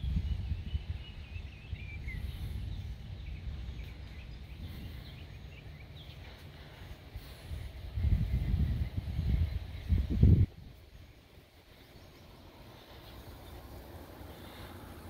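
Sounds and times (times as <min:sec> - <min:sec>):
small birds chirping: 0:00.0 - 0:15.0
wind buffeting microphone: 0:00.0 - 0:15.0.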